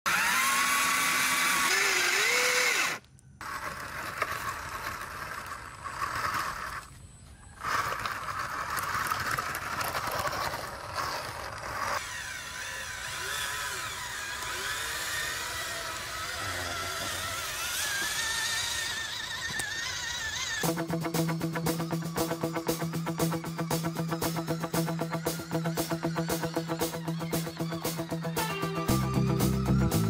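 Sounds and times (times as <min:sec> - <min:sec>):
small electric motors whining: 0:00.1 - 0:30.0.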